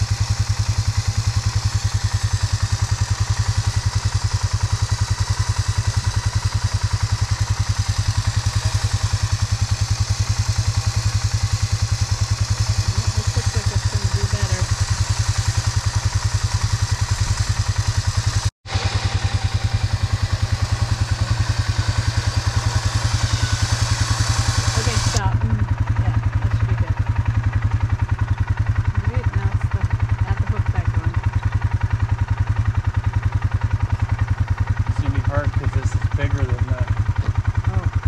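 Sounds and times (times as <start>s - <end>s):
atv engine idling: 0.0s - 38.0s.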